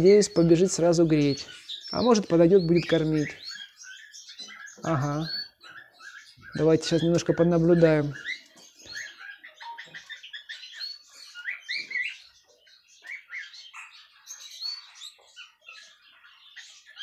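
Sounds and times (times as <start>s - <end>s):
canaries chirping: 0.0s - 17.0s.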